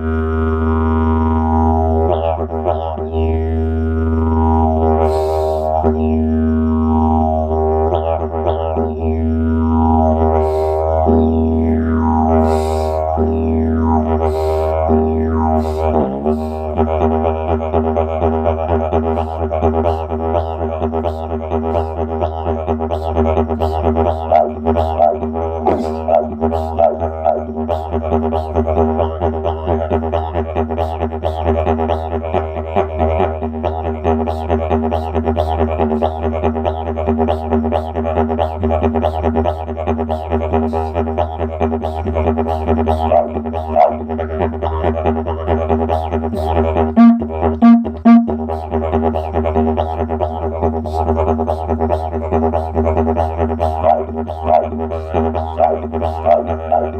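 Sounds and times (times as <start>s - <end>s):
didgeridoo drone: 0.0s - 56.9s.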